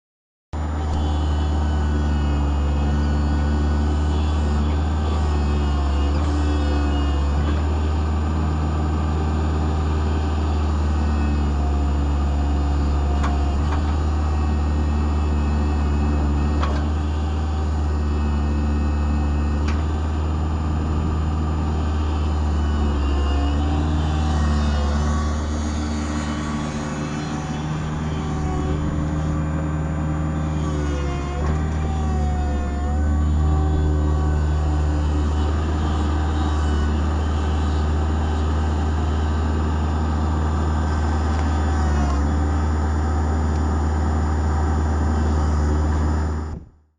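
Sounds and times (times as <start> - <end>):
diesel engine humming: 0.6 - 46.6.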